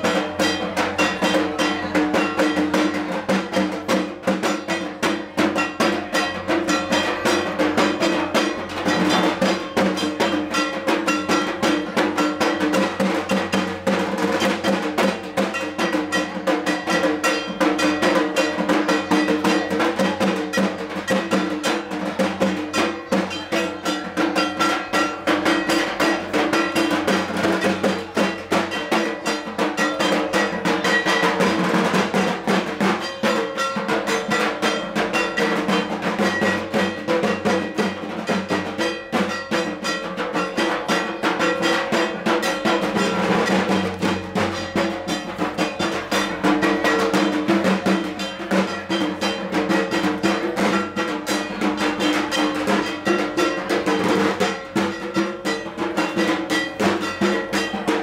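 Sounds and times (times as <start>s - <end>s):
drums beaten fast: 0.0s - 58.0s.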